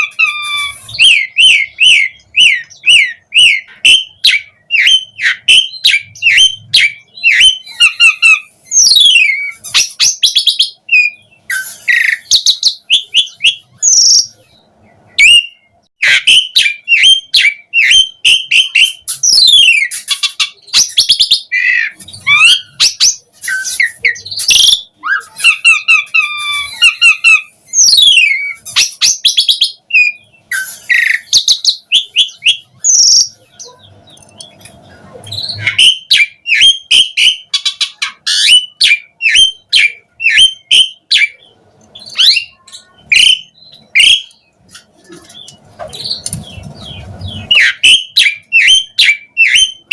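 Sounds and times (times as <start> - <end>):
starling singing: 0.0 - 49.9.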